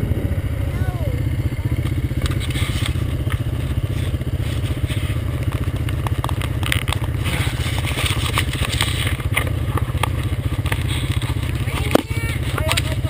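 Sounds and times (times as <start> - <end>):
engine idling: 0.0 - 13.0
clicks and scrapes: 2.2 - 13.0.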